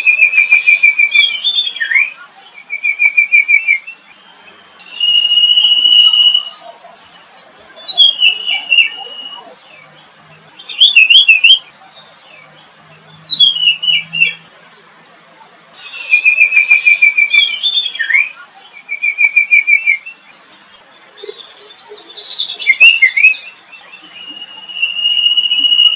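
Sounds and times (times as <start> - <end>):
songbirds chirping and trilling: 0.0 - 25.9.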